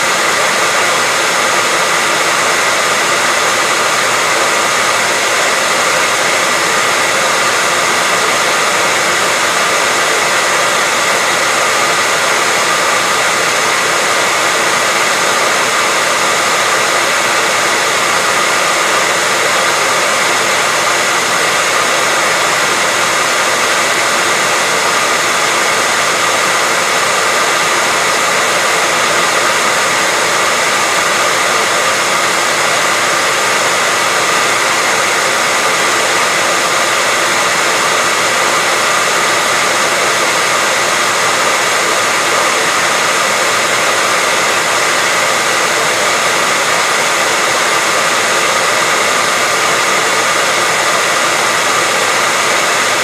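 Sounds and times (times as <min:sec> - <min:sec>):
hairdryer running: 0:00.0 - 0:53.0.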